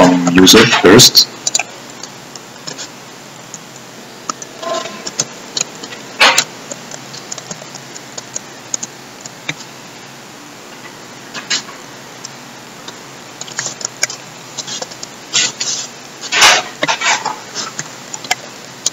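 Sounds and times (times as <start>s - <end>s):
steady background hiss: 0.0s - 18.9s.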